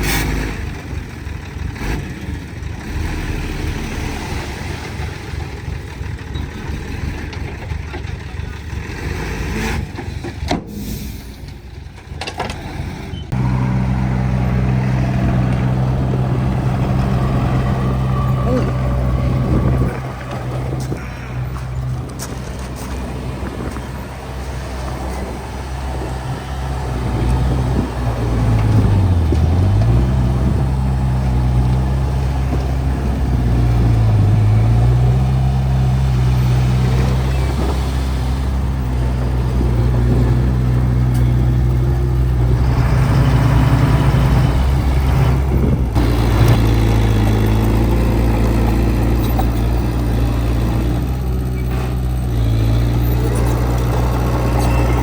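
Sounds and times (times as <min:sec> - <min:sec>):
heavy machine diesel engine: 0:00.0 - 0:55.0.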